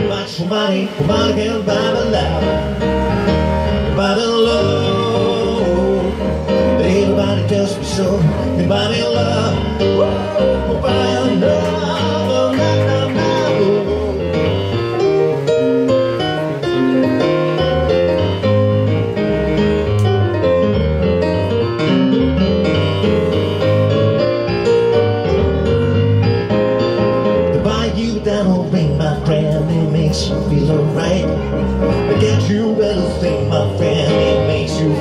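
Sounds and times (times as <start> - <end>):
piano chords and melody: 0.0 - 35.0.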